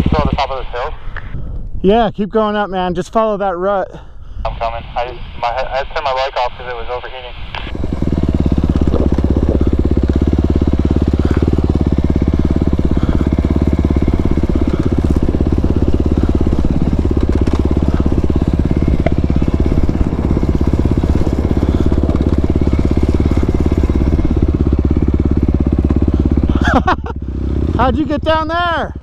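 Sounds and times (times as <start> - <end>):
dirt bike engine running: 0.0 - 5.8, 7.4 - 29.0.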